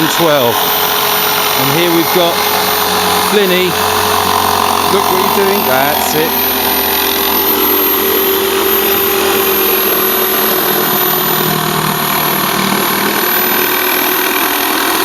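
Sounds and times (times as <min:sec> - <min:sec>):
electric jigsaw sawing: 0:00.0 - 0:15.0.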